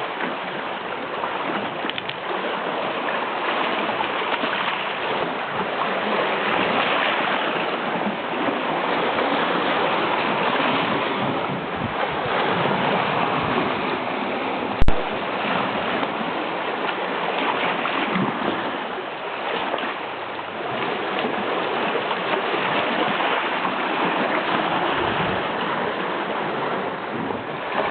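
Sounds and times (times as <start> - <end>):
sea surf washing in: 0.0 - 27.9.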